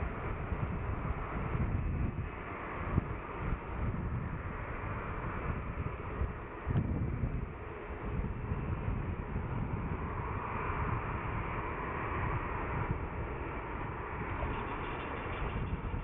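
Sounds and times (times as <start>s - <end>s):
jet engines hum: 0.0s - 16.0s
wind rumbling on microphone: 0.0s - 16.0s.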